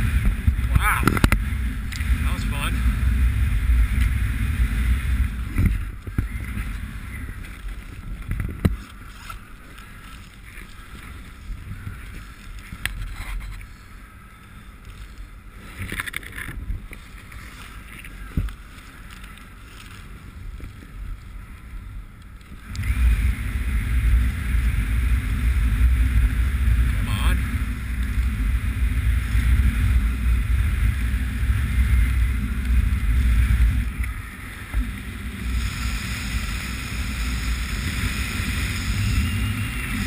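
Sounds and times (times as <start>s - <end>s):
wind rumbling on microphone: 0.0s - 40.0s.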